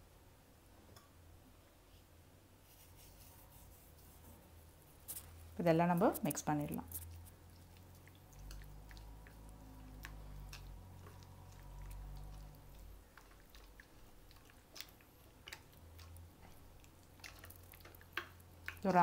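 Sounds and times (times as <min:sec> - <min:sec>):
low steady hum: 0:00.0 - 0:19.0
wet squelching of hand mixing: 0:02.7 - 0:19.0.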